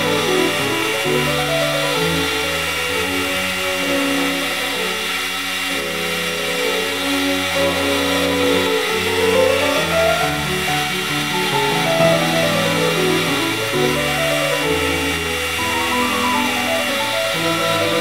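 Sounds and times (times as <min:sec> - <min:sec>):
sandpaper hissing on spinning wood: 0:00.0 - 0:18.0.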